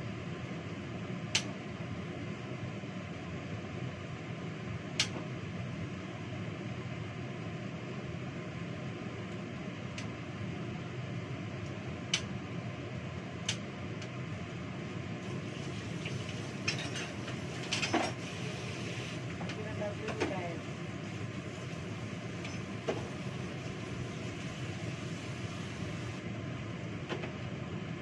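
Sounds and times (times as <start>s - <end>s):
kitchen extractor fan humming: 0.0s - 28.0s.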